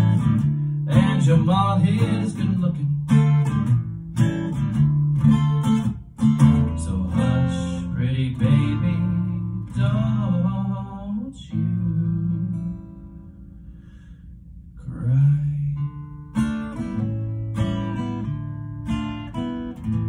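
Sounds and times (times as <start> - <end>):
acoustic guitar strumming: 0.0 - 14.1, 15.1 - 20.0.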